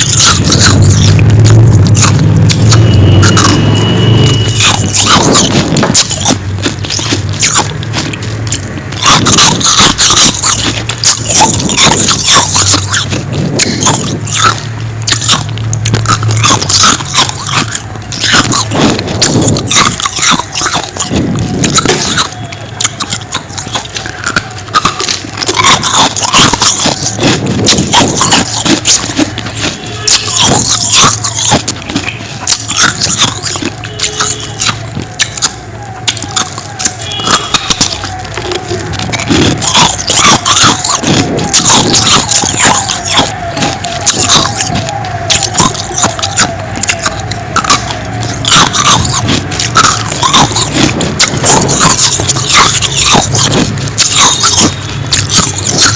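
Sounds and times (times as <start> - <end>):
ice crunching being chewed: 0.0 - 55.9.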